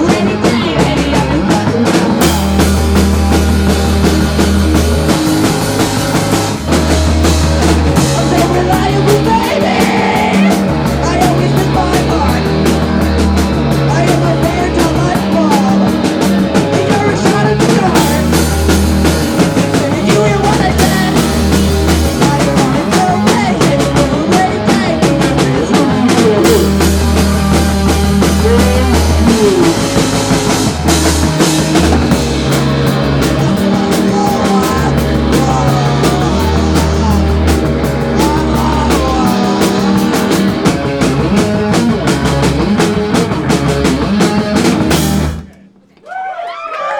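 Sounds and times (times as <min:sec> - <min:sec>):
rock band playing loudly: 0:00.0 - 0:45.8.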